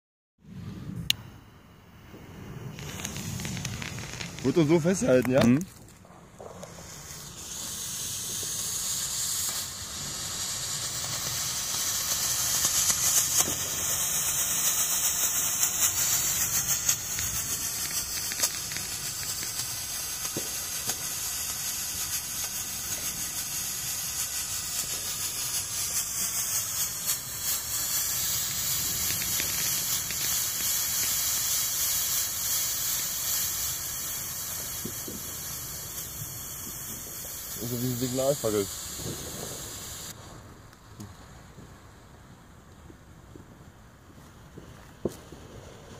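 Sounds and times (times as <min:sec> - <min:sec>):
smoke flare hissing: 0:00.4 - 0:42.1.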